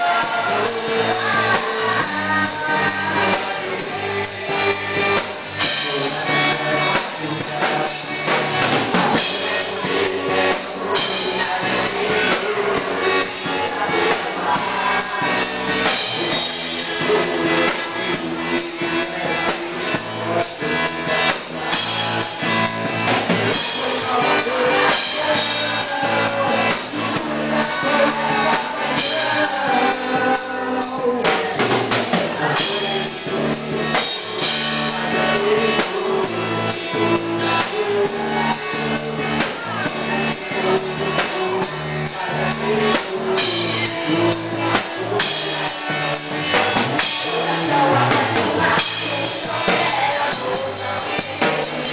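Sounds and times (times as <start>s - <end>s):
band playing music: 0.0s - 51.9s
drum kit beat: 0.0s - 51.9s.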